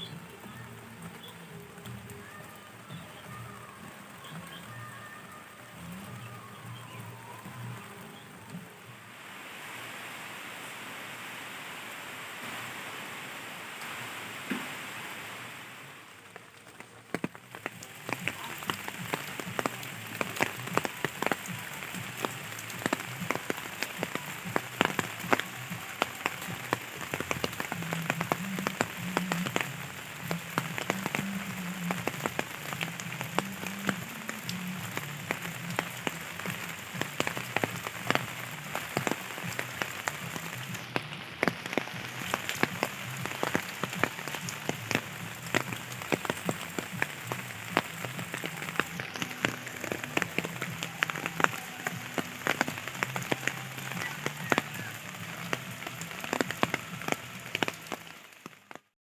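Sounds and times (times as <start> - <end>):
raindrops ticking on hard surface: 0.0 - 9.1, 16.1 - 58.9
steady rain falling: 0.0 - 59.0.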